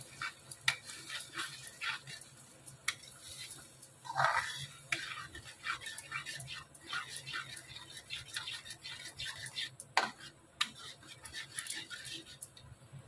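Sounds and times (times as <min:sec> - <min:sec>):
spatula scraping thick sauce in a pan: 0:00.0 - 0:12.7.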